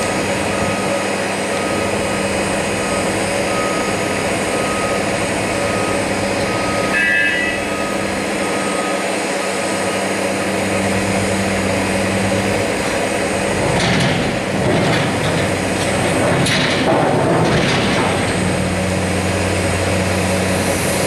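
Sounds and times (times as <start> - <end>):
diesel excavator engine running: 0.0 - 21.0.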